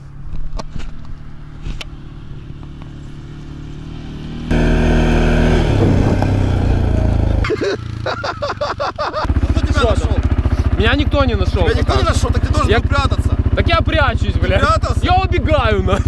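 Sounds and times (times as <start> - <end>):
quad bike engine running: 1.2 - 16.0.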